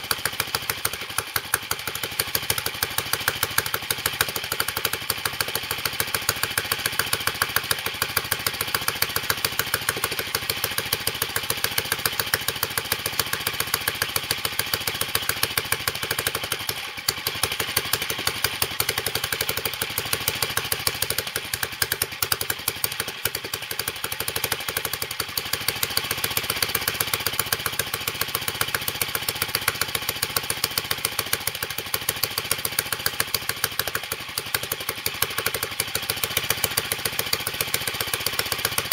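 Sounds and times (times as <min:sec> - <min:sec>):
single-cylinder engine running rough: 0:00.0 - 0:38.9.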